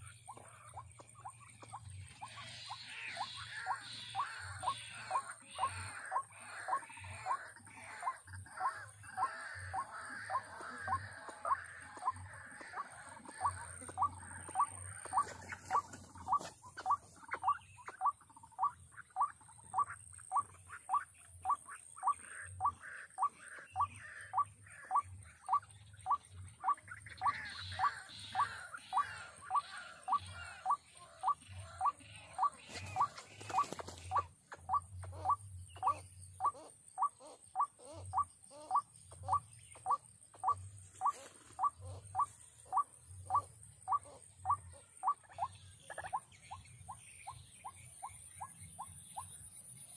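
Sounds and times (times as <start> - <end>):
waterhen calling: 0.0 - 47.3.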